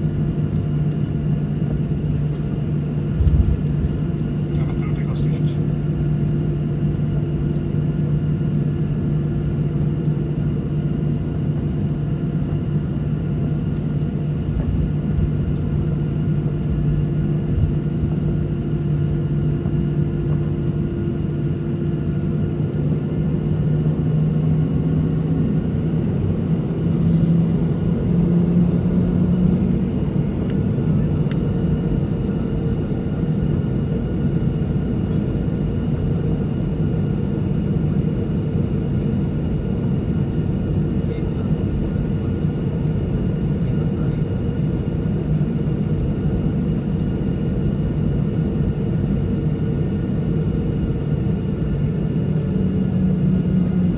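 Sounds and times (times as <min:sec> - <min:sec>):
airliner engines rumbling in cabin: 0:00.0 - 0:53.9.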